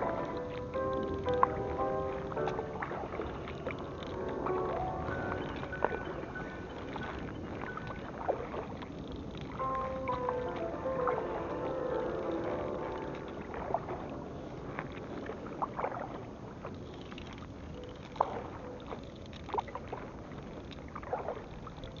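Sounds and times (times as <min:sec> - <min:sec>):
paddle splashes: 0:00.0 - 0:22.0
water washing: 0:00.0 - 0:22.0.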